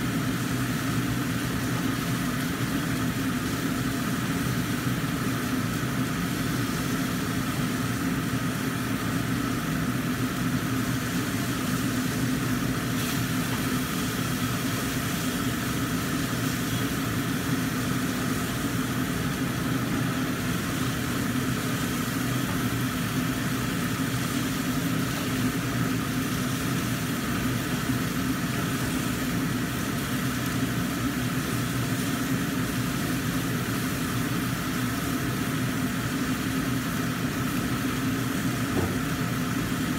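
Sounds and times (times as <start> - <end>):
range hood fan humming: 0.0 - 39.9
wok frying: 0.0 - 39.9.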